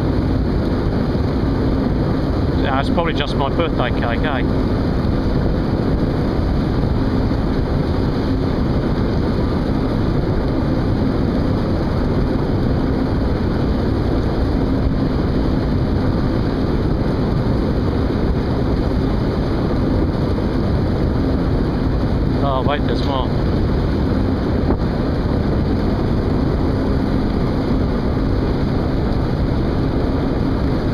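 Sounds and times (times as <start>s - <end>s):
boat engine drone: 0.0s - 30.9s
faint constant hum: 0.0s - 30.9s
wind on microphone: 0.0s - 30.9s.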